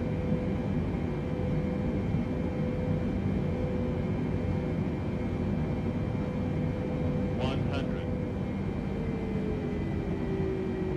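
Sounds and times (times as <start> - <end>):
jet engine rumble: 0.0 - 10.9.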